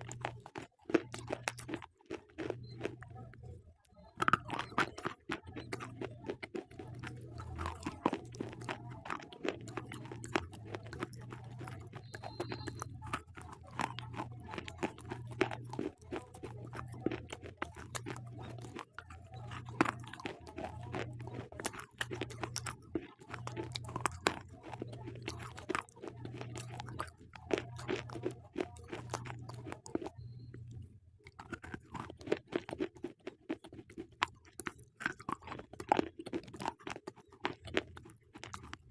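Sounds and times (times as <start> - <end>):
slate pencils being chewed: 0.0 - 38.9.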